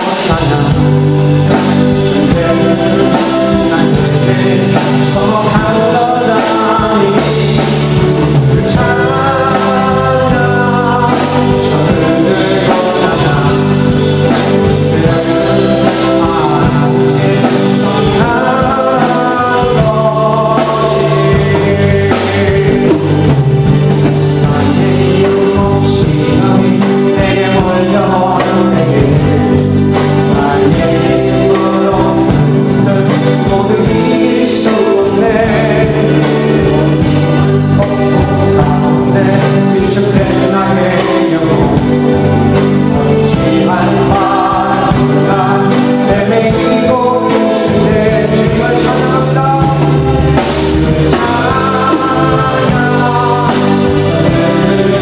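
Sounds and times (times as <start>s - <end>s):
drum kit: 0.0s - 55.0s
electric guitar: 0.0s - 55.0s
keyboard: 0.0s - 55.0s
people singing: 0.0s - 55.0s.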